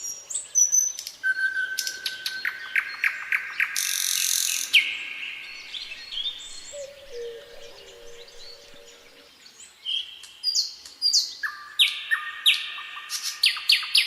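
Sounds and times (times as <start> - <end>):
birds singing and calling: 0.0 - 14.0.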